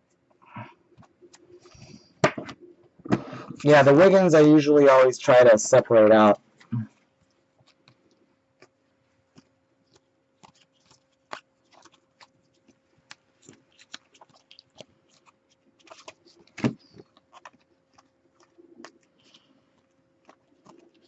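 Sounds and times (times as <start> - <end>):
faint hum: 0.0 - 21.0
trading cards clicking and rustling: 0.8 - 21.0.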